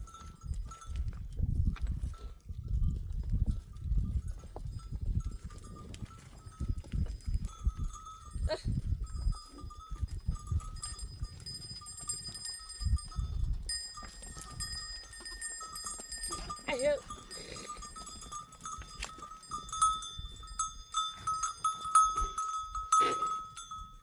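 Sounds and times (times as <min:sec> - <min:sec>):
animal bells clinking: 0:00.0 - 0:24.0
wind rumbling on microphone: 0:00.0 - 0:24.0.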